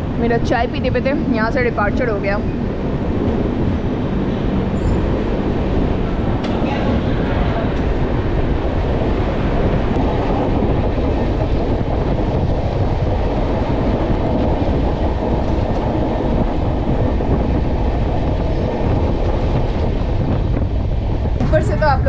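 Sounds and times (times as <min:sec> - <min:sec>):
train wheels on track: 0:00.0 - 0:22.0.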